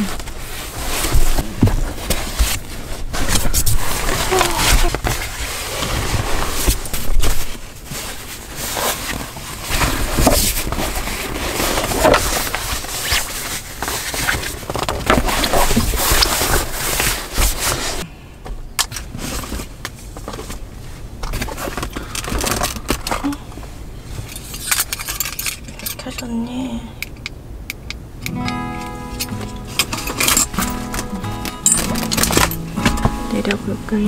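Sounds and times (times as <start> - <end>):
gear rustling and scraping: 0.0 - 18.0, 18.8 - 26.4, 28.8 - 34.0.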